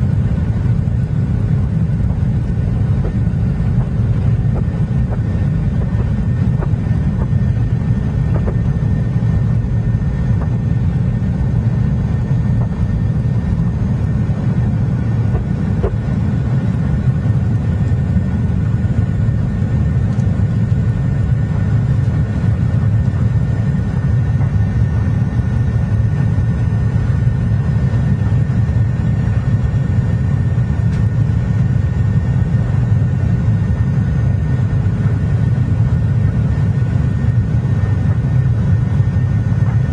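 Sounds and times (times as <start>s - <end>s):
faint high engine whine: 0.0s - 39.9s
jet engines low rumble: 0.0s - 39.9s.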